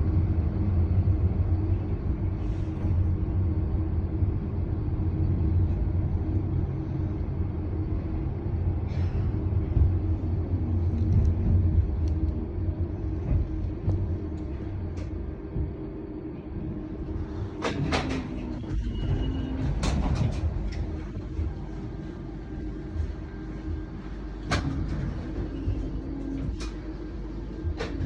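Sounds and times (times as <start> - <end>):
vehicle interior rumble: 0.0 - 28.0.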